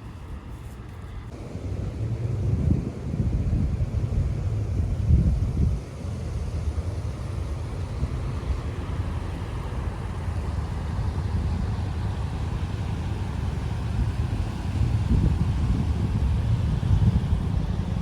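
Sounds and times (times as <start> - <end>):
moving vehicle rumble: 0.0 - 18.0.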